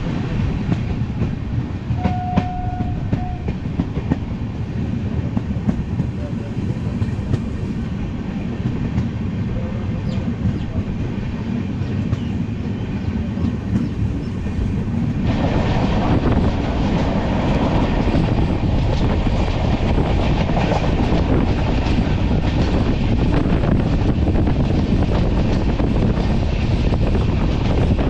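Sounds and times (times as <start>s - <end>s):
train wheels rumbling on track: 0.0s - 28.0s
wind on microphone: 0.0s - 28.0s.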